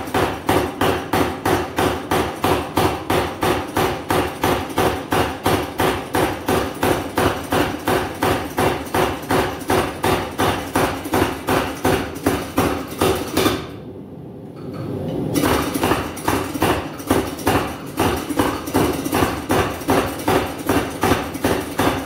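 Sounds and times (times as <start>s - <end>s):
hammer blows forging steel: 0.0s - 13.8s, 15.3s - 22.0s.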